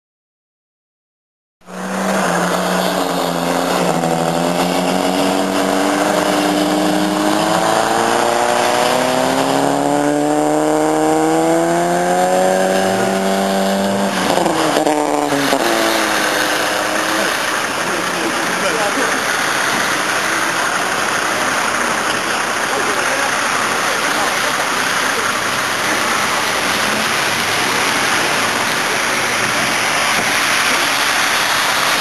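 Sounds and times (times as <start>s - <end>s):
engine at high revs: 1.6s - 32.0s
lower engine note: 1.6s - 32.0s.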